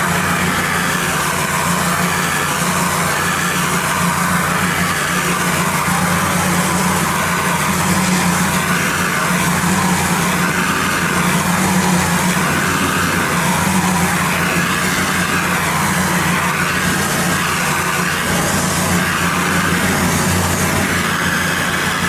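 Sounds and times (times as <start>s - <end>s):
pressure washer engine running: 0.0s - 22.0s
water spray hissing on concrete: 0.0s - 22.0s.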